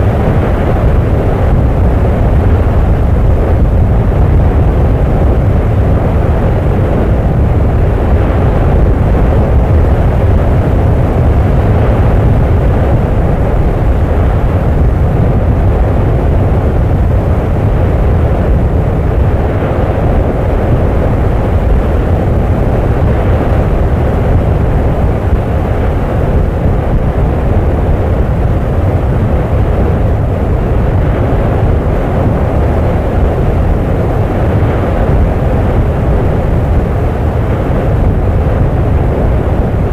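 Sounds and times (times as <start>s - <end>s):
volcanic eruption deep roar: 0.0s - 39.9s.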